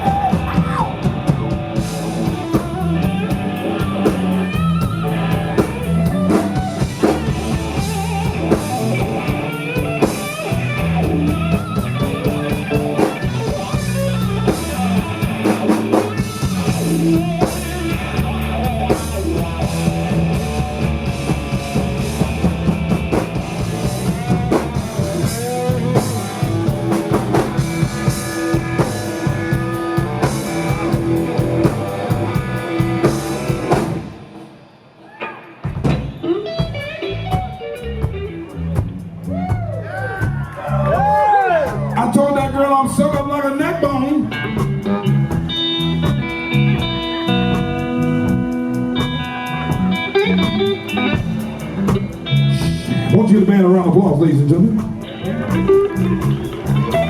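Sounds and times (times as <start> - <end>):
live band playing instrumental: 0.0 - 57.0.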